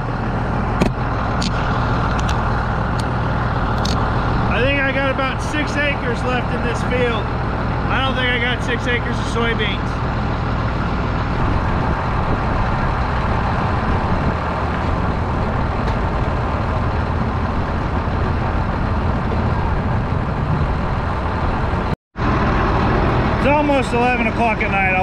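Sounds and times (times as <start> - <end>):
tractor engine rumbling: 0.0 - 25.0.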